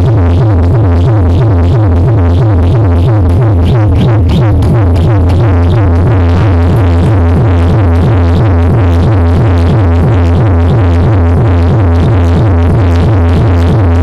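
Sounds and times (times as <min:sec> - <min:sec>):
loud electronic dance music: 0:00.0 - 0:14.0.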